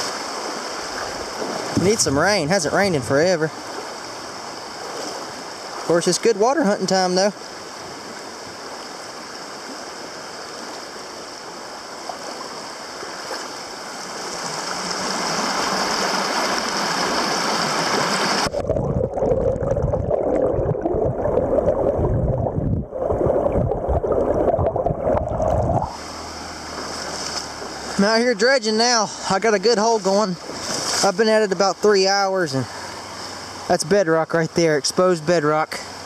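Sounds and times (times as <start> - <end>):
muffled underwater churning: 0.0 - 33.7
river water rushing and gurgling: 0.0 - 36.0.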